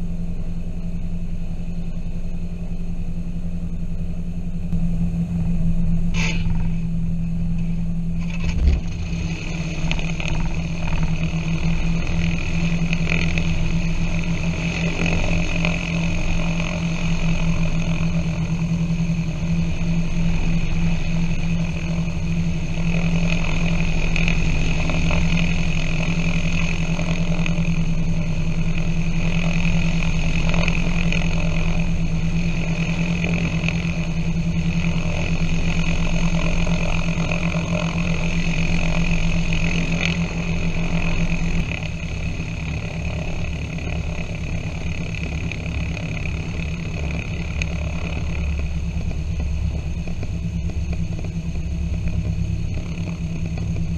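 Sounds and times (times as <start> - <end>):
propeller plane engines droning: 0.0 - 53.9.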